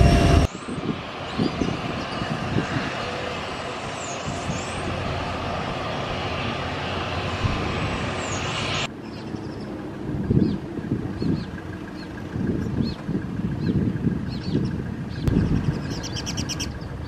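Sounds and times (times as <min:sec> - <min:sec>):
wind on microphone: 0:00.0 - 0:08.9, 0:10.0 - 0:17.0
jet engines running: 0:00.0 - 0:17.0.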